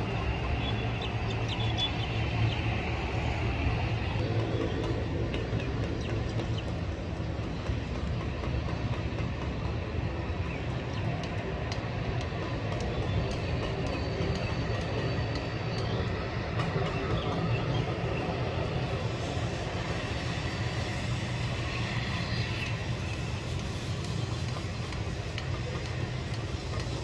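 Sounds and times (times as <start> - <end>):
distant jet engines rumbling: 0.0 - 27.0.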